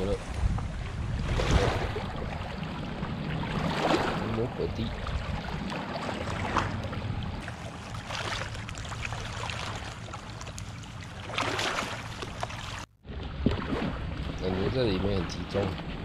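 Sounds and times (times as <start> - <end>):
lake water rushing: 0.0 - 16.0
wind: 0.0 - 16.0.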